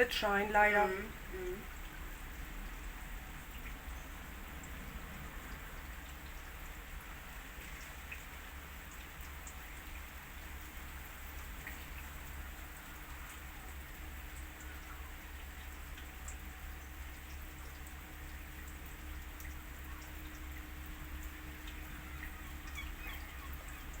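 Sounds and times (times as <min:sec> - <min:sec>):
low steady hum: 0:00.0 - 0:24.0
raindrops ticking: 0:00.0 - 0:24.0
steady rain hiss: 0:00.0 - 0:24.0.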